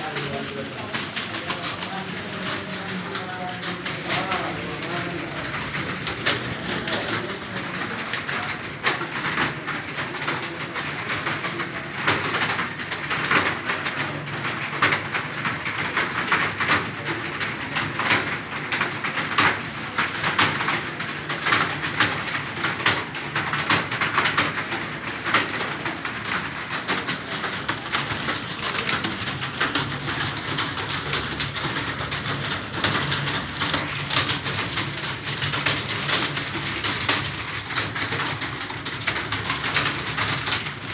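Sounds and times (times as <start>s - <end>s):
computer keyboard typing: 0.0s - 40.9s.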